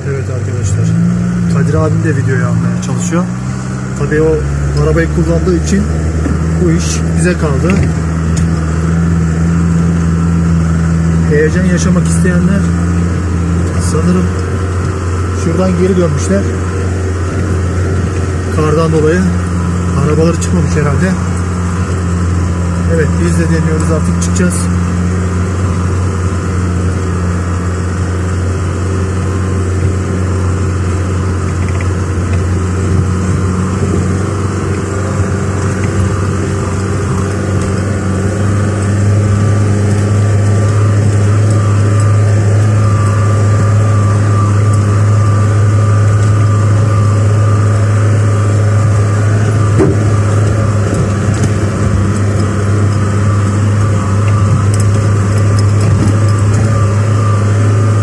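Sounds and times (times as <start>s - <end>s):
car engine drone from inside cabin: 0.0s - 58.0s.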